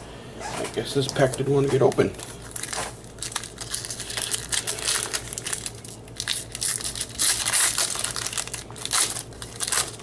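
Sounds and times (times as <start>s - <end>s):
foil wrapper crinkling and tearing: 1.1s - 10.0s.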